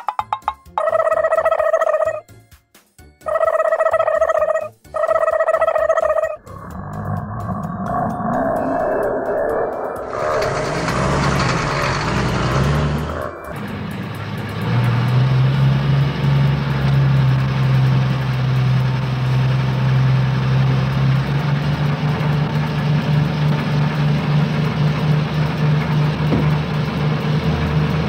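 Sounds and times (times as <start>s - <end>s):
cartoon truck engine idling: 3.2s - 28.0s.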